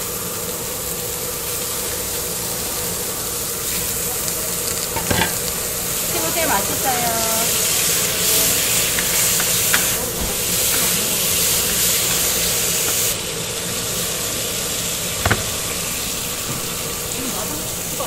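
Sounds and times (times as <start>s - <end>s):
meat sizzling on a griddle: 0.0s - 18.0s.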